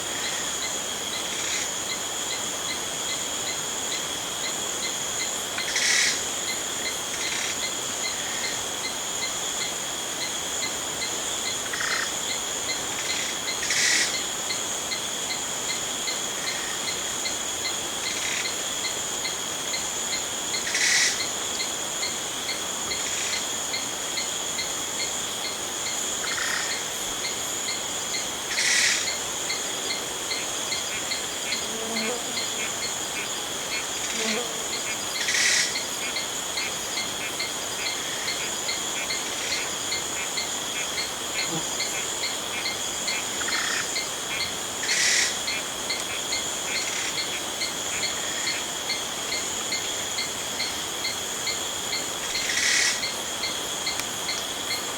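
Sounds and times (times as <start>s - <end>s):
insects chirping drone: 0.0s - 54.9s
loud insect calls: 0.0s - 54.9s.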